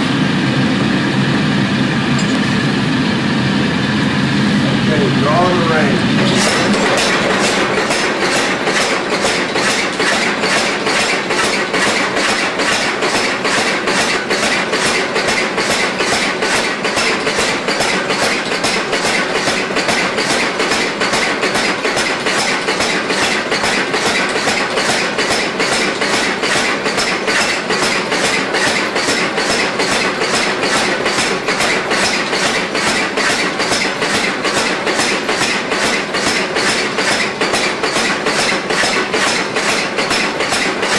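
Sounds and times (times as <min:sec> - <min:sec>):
continuous noisy bed: 0:00.6 - 0:40.9
hammer blows forging steel: 0:04.8 - 0:40.9.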